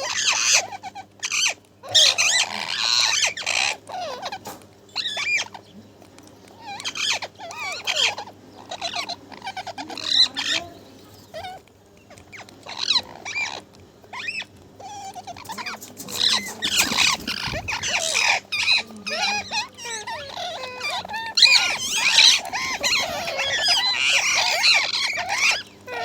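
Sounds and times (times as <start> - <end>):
parrot chattering and squawking: 0.0 - 5.8, 6.4 - 26.0.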